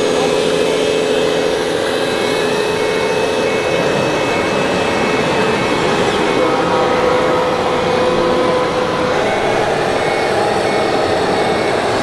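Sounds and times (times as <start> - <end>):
model motor whine: 0.0 - 12.0.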